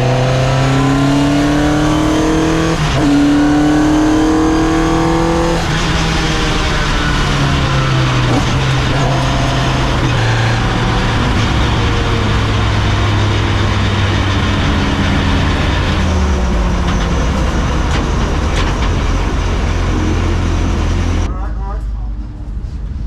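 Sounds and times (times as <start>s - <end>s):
race car engine droning: 0.0s - 23.0s.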